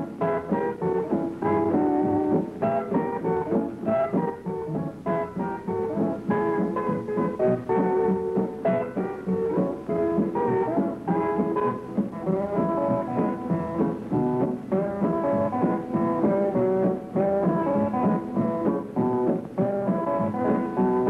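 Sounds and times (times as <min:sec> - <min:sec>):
guitar: 0:00.0 - 0:21.0
swing band playing a rag: 0:00.0 - 0:21.0.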